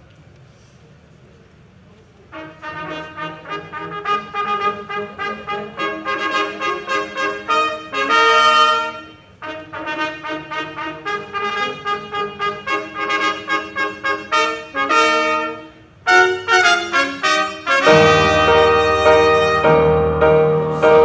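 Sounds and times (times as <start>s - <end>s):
trumpet playing: 2.3s - 21.0s.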